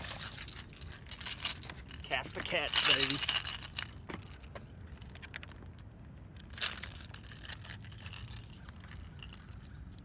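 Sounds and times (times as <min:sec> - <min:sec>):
handling clicks and rustling: 0:00.0 - 0:10.0
low steady rumble: 0:00.0 - 0:10.0.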